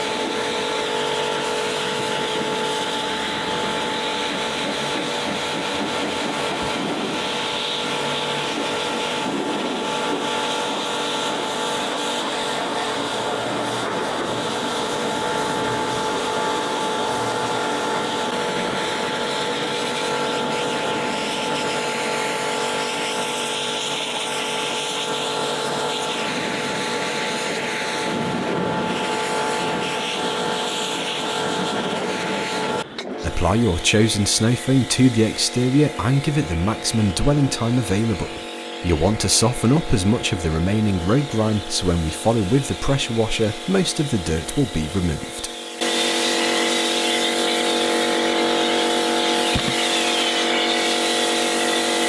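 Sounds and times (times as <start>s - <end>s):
pressure washer motor whine: 0.0s - 52.0s.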